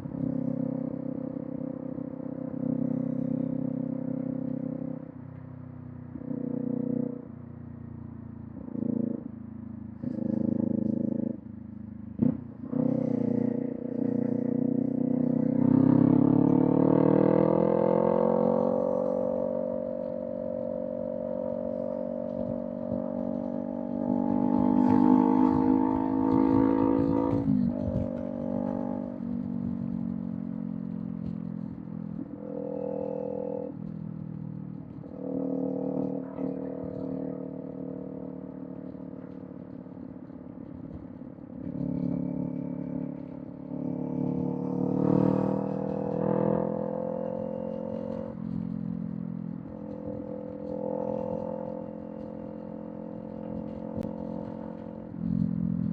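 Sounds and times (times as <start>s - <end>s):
motorcycle engine revving: 0.0s - 5.1s, 8.6s - 9.4s, 10.0s - 55.9s.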